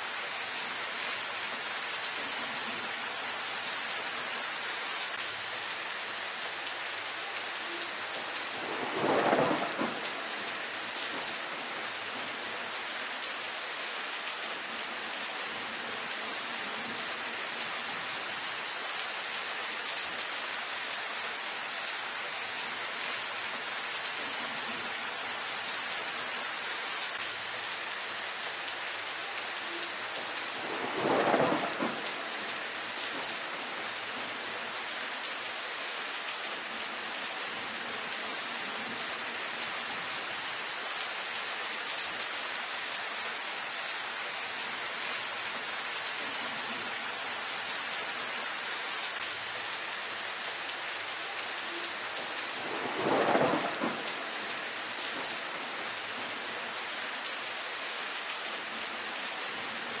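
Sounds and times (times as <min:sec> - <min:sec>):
rain falling on foliage: 0:00.0 - 1:00.0.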